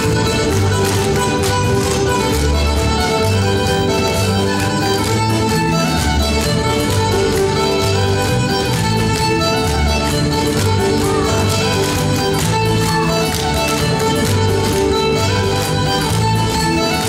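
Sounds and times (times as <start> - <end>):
band accompaniment: 0.0 - 17.0
fiddle tune: 0.0 - 17.0
walking bass line: 0.0 - 17.0.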